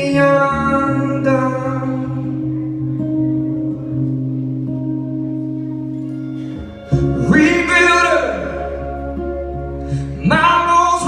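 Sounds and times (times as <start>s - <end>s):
band music with heavy bass: 0.0s - 11.0s.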